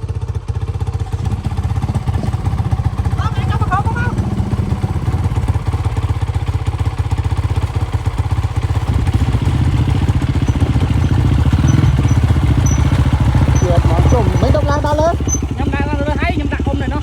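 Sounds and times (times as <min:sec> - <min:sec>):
motorcycle engine chugging: 0:00.0 - 0:17.0.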